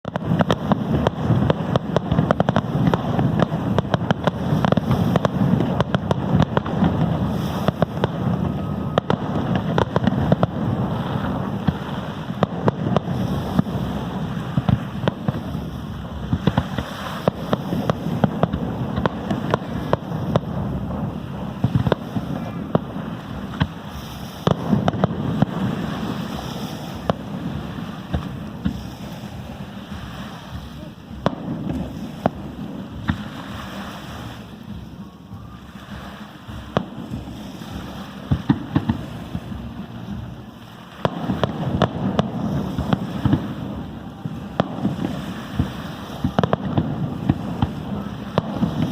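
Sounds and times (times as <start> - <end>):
firework bangs and crackles: 0.0 - 48.9
low rumble: 0.0 - 48.9.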